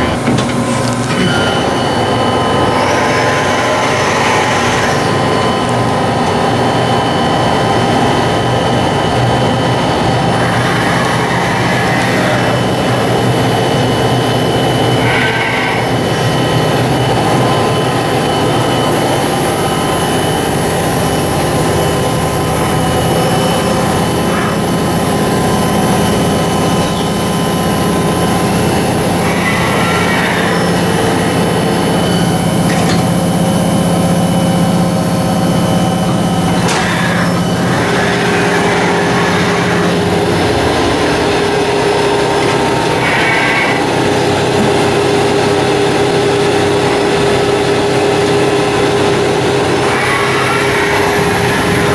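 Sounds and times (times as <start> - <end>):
lathe machine hum: 0.0 - 51.9.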